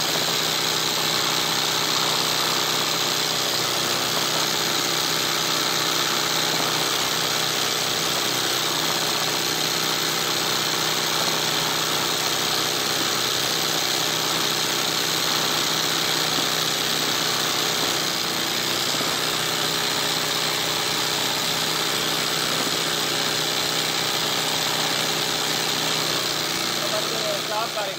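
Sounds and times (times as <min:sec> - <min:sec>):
sewing machine running: 0:00.0 - 0:27.9.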